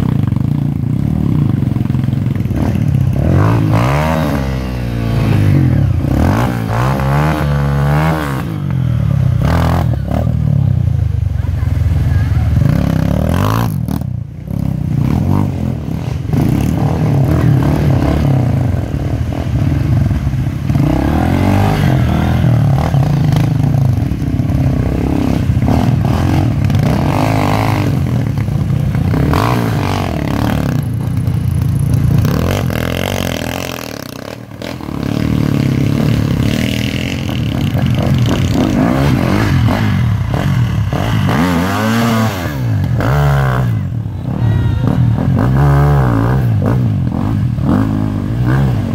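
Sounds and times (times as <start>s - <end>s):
dirt bike engines revving: 0.0s - 48.9s.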